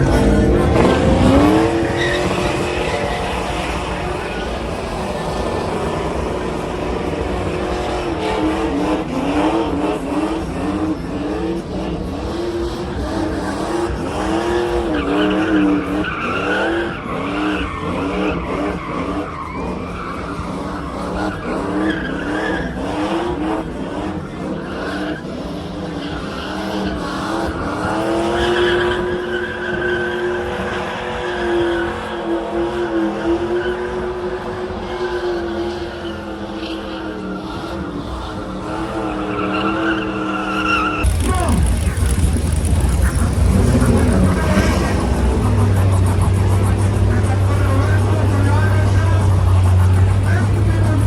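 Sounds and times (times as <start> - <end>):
truck engine revving: 0.0 - 51.0
tyres squealing on pavement: 0.0 - 51.0.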